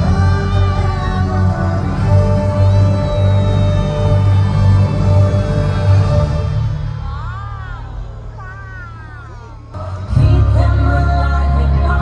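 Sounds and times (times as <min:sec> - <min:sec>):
music with deep bass and held tones: 0:00.0 - 0:12.0.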